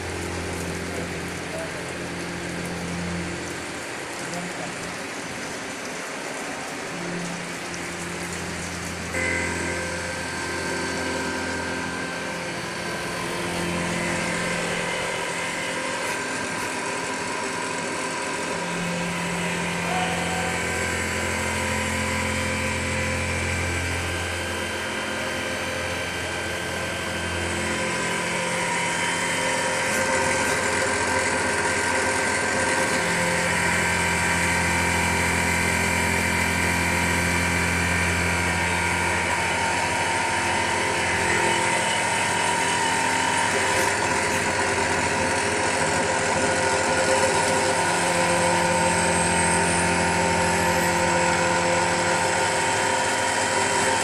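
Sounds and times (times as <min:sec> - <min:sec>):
low machine hum: 0:00.0 - 0:54.0
machine hum and hiss: 0:00.0 - 0:54.0.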